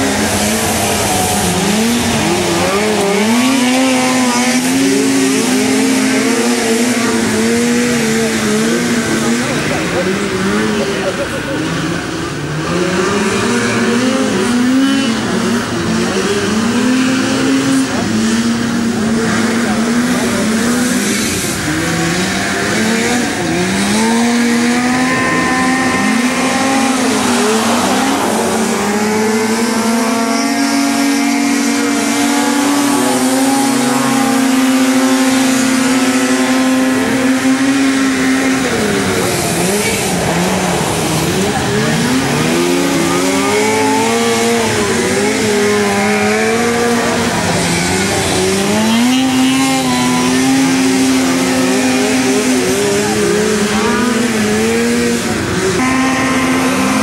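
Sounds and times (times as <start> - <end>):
racing atv engines revving: 0.0 - 57.0.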